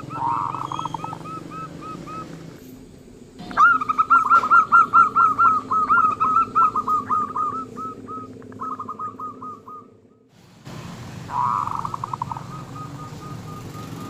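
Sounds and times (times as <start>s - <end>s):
dove cooing: 0.0s - 10.2s, 11.2s - 14.0s.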